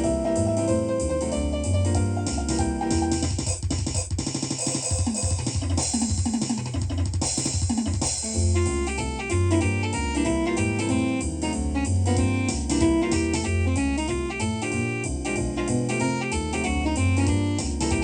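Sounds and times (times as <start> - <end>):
bass: 0.0 - 4.0, 5.1 - 18.0
jazz piano: 0.0 - 6.2, 6.9 - 18.0
drum kit: 0.0 - 18.0.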